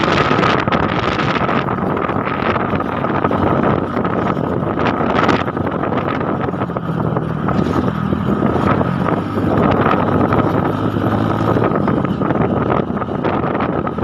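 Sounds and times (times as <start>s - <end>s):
steady engine drone: 0.0s - 14.0s
wind buffeting microphone: 0.0s - 14.0s.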